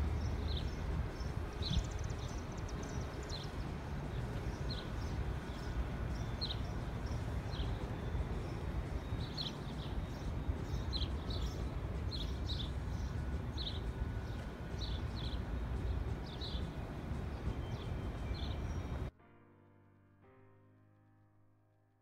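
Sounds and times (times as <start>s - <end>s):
low rumble of wind or traffic: 0.0s - 19.1s.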